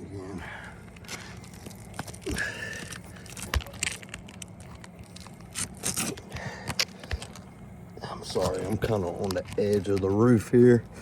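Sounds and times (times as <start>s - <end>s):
roof shingles crunching and scraping: 0.8s - 10.6s.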